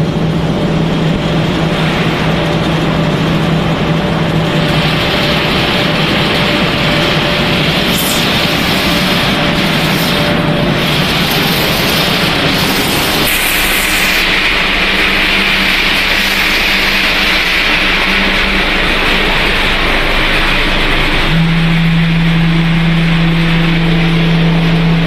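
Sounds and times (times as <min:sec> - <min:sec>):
loud machine noise: 0:00.0 - 0:25.0
low machine hum: 0:00.0 - 0:25.0.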